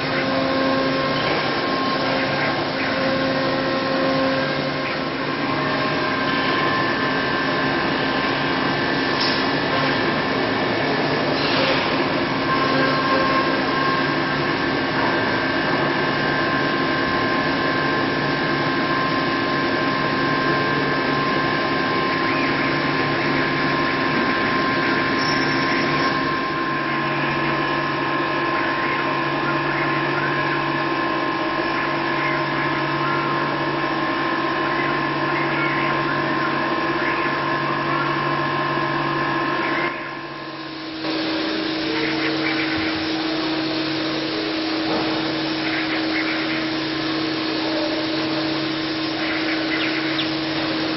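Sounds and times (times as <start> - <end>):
low pulsing hum: 0.0 - 50.9
metal cutting noise: 0.0 - 50.9
milling machine whining: 0.0 - 50.9.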